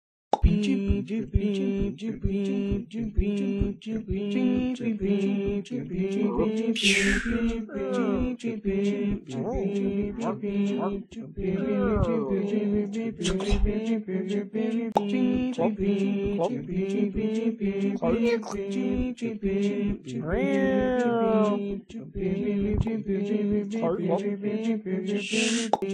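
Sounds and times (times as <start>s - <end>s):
clicking beat: 0.3s - 25.9s.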